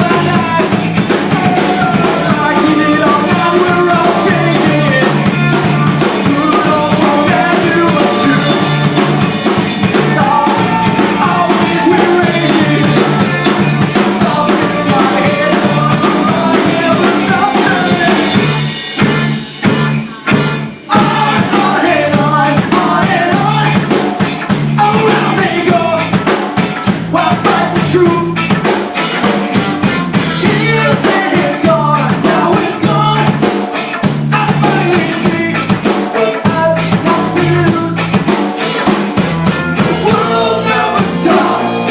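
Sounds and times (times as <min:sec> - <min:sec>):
drum kit beat: 0:00.0 - 0:41.9
rock band playing: 0:00.0 - 0:41.9.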